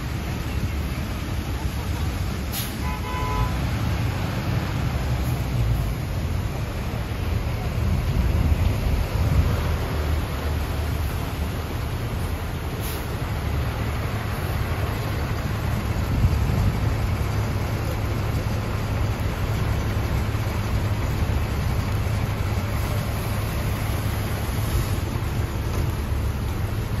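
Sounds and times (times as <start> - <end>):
bus engine idling: 0.0 - 27.0
hiss of water in street: 0.0 - 27.0.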